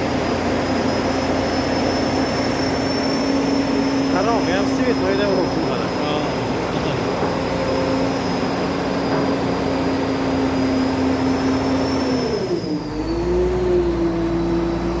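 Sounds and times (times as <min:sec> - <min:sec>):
excavator engine whining: 0:00.0 - 0:15.0.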